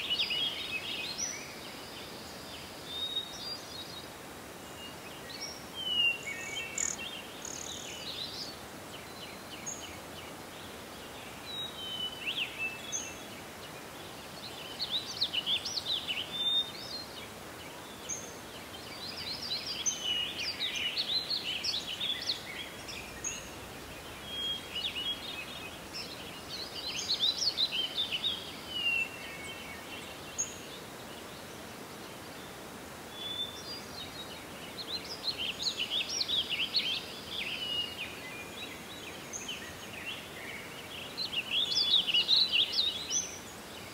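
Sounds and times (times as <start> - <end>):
songbirds singing and chirping: 0.0 - 43.9
steady background hiss: 0.0 - 43.9.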